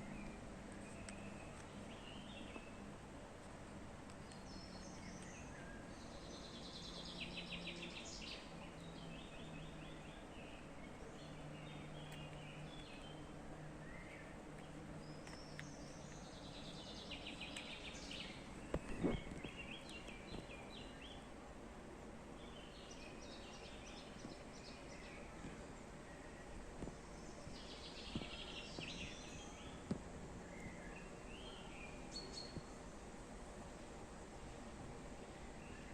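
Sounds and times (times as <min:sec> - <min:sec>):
birds singing: 0:00.0 - 0:02.9, 0:04.2 - 0:21.4, 0:22.3 - 0:33.0, 0:35.3 - 0:35.9
background hiss: 0:00.0 - 0:35.9.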